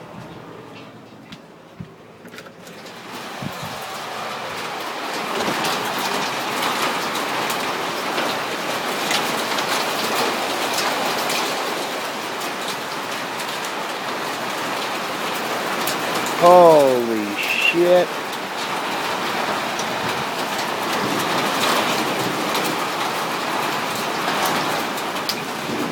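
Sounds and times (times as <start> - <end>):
hail and rain pelting down: 2.6 - 25.9
hailstones ticking on hard surfaces: 2.6 - 25.9.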